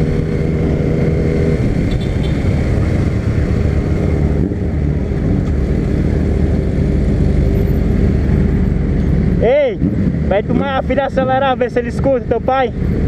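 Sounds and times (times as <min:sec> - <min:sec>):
other motorcycles: 0:00.0 - 0:13.0.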